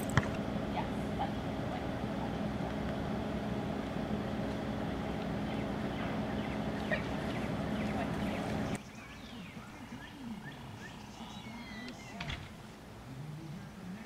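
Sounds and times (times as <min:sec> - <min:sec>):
steady machine hum: 0:00.0 - 0:12.9.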